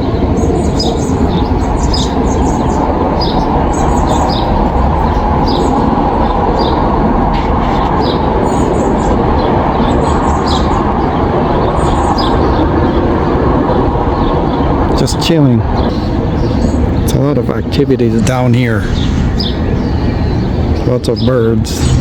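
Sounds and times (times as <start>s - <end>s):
loud steady low rumble: 0.0s - 22.0s
songbirds chirping: 0.0s - 22.0s.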